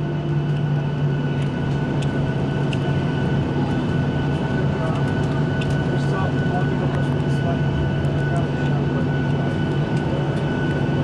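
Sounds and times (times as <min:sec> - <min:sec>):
jet engines humming: 0:00.0 - 0:11.0.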